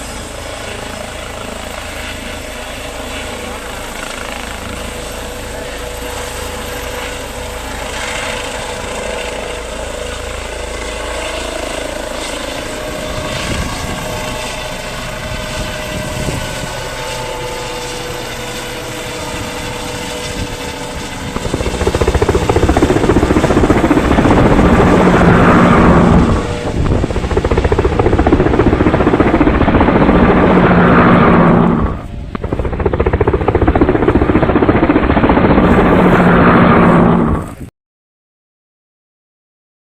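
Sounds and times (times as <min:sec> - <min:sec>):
helicopter engine and rotor: 0:00.0 - 0:37.7.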